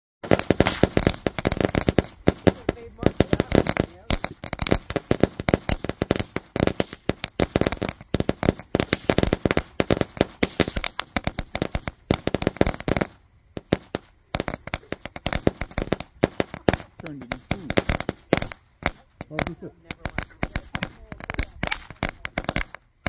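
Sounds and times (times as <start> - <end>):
firework crackling pops: 0.2 - 23.0.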